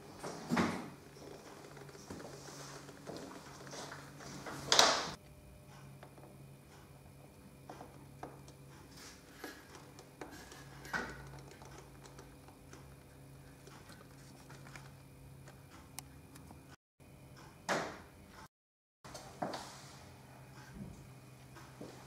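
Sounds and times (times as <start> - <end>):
steady low hum: 0.0 - 18.4.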